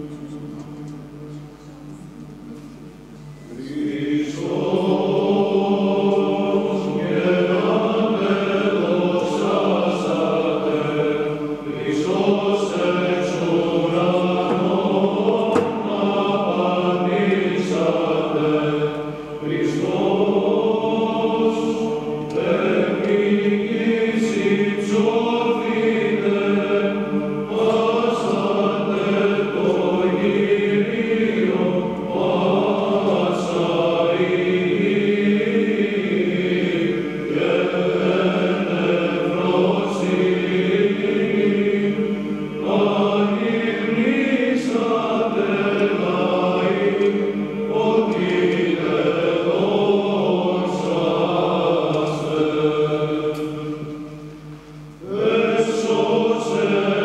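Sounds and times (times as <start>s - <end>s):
men's choir chanting: 3.5s - 54.2s, 55.0s - 57.0s.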